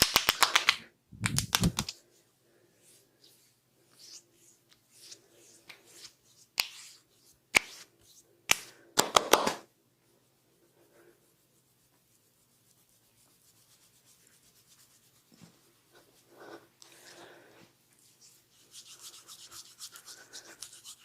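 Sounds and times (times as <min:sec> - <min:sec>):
hands rubbing head: 0:00.0 - 0:02.0, 0:02.8 - 0:09.4, 0:11.2 - 0:16.6, 0:17.9 - 0:21.0.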